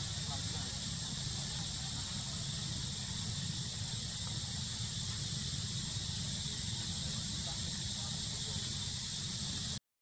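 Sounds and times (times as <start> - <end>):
high-pitched insect drone: 0.0 - 9.8.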